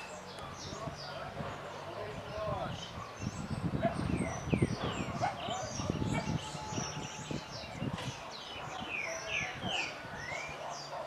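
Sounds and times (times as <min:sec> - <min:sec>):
swallows twittering: 0:00.0 - 0:11.0.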